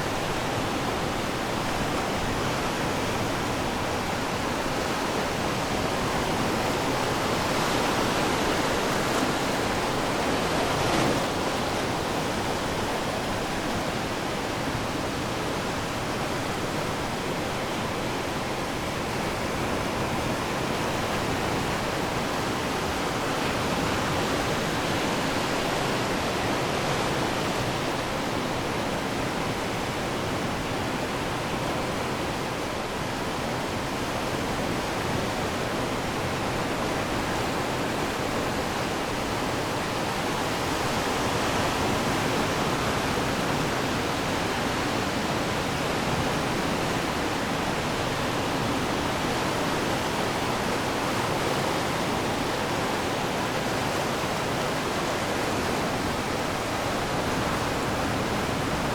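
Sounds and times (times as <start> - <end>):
surf washing on shore: 0.0 - 58.9.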